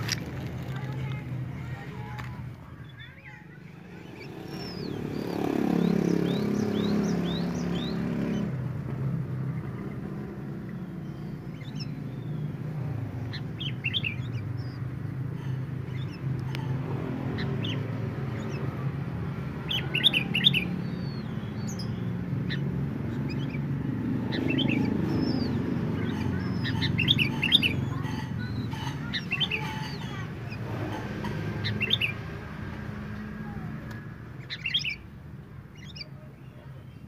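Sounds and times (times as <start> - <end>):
birds chattering calls: 0.0 - 37.0.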